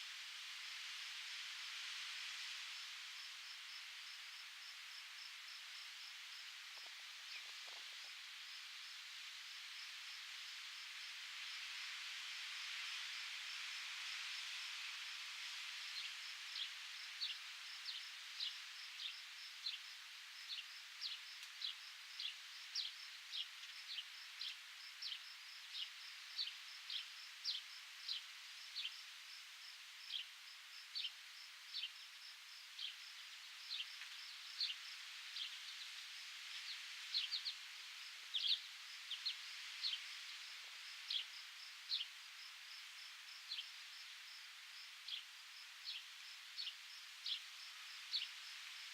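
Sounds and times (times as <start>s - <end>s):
faint steady hiss: 0.0s - 48.9s.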